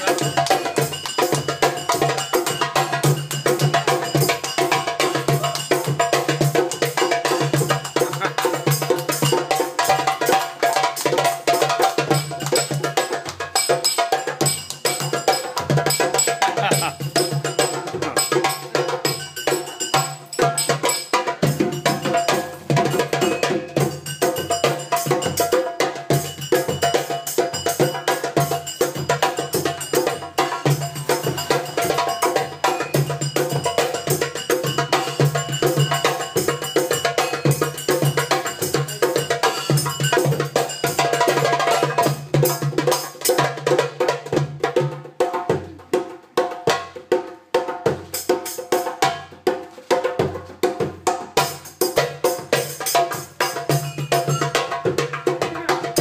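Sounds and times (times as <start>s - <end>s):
djembe drums playing fast rhythm: 0.0s - 56.0s.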